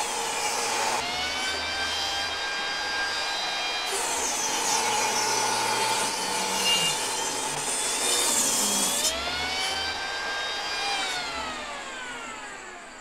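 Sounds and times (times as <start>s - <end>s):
table saw cutting wood: 0.0s - 13.0s.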